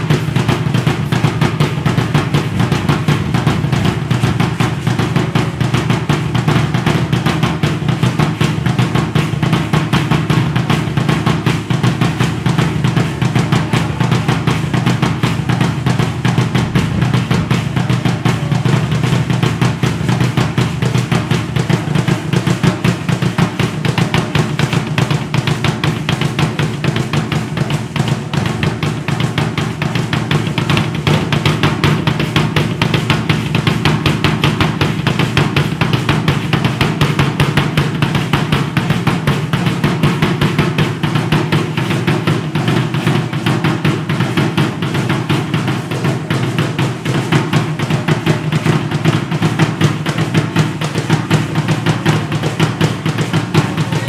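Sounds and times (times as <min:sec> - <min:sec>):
heavy low drum hits: 0:00.0 - 0:54.0
rapid drumming: 0:00.0 - 0:54.0.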